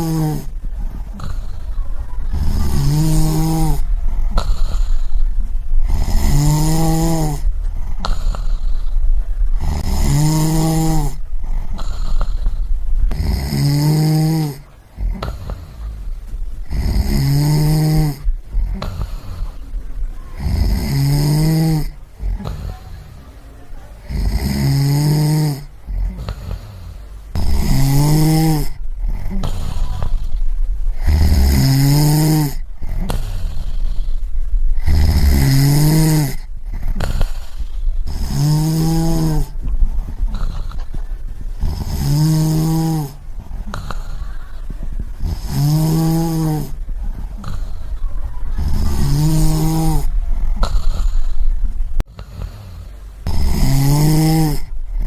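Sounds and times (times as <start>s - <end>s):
person snoring: 0.0s - 5.2s, 5.8s - 9.0s, 9.6s - 16.0s, 16.6s - 19.6s, 20.4s - 23.2s, 24.0s - 41.0s, 41.6s - 44.6s, 45.2s - 55.0s.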